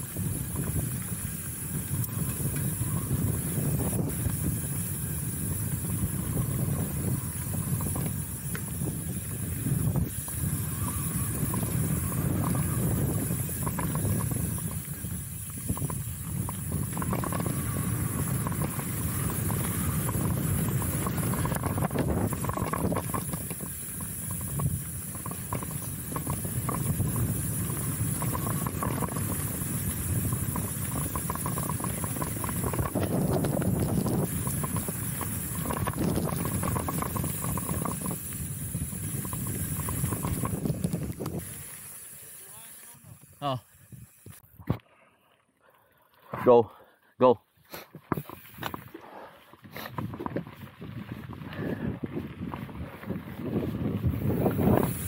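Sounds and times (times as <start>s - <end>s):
bike tyres rumbling on dirt: 0.0s - 44.8s, 47.8s - 55.0s.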